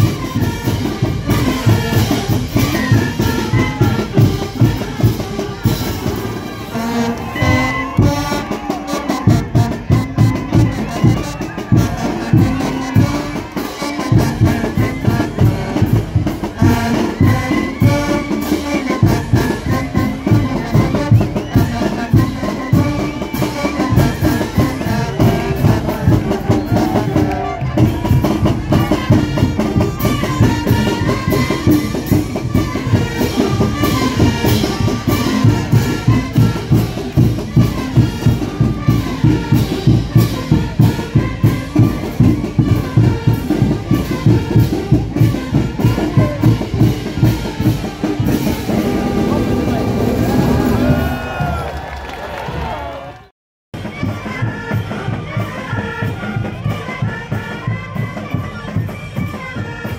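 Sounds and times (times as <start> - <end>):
brass melody: 0.0 - 51.4, 53.8 - 59.9
steady drum beat: 0.0 - 51.6.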